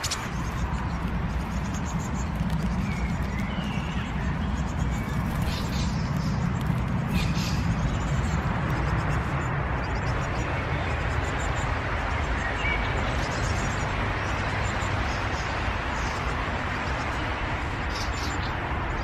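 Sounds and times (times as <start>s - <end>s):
bird nestlings chirping: 0.0s - 16.3s
steady background noise: 0.0s - 19.0s.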